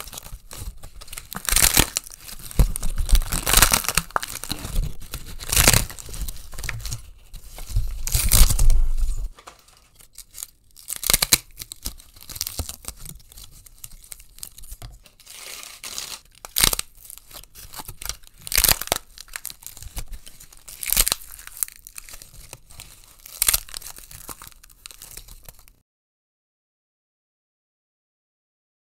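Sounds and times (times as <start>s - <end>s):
cardboard packaging being crushed: 0.0s - 25.7s
paper crinkling: 0.0s - 25.8s.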